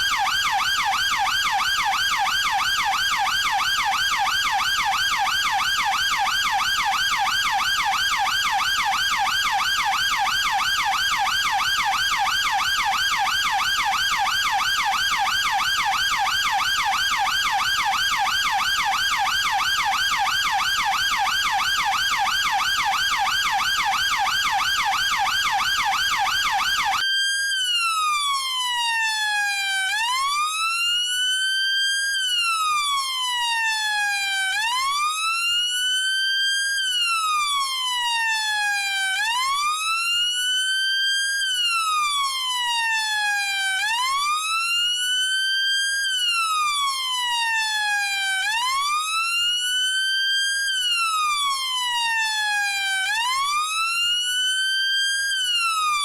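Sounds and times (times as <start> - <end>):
police siren: 0.0 - 56.0.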